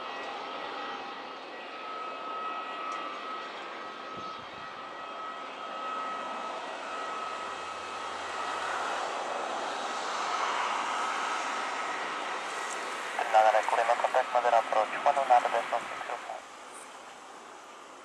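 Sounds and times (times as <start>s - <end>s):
turboprop engine whine: 0.0s - 18.0s.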